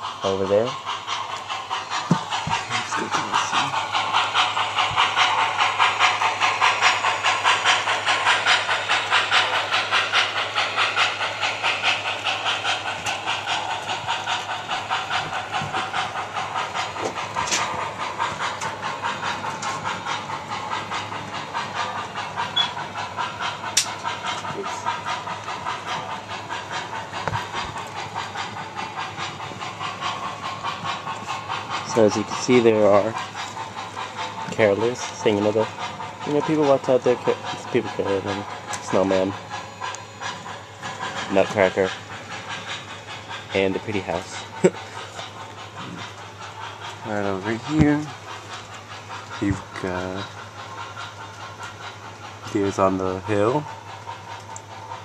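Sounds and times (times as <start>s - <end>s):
model train steam chuffs: 0.0s - 55.0s.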